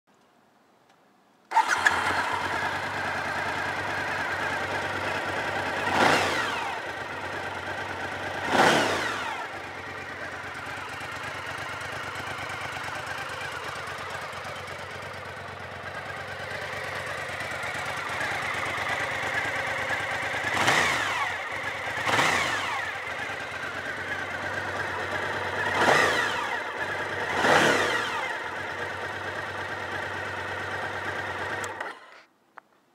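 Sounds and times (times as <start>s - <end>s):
motorcycle engine idling and revving: 1.5s - 32.3s.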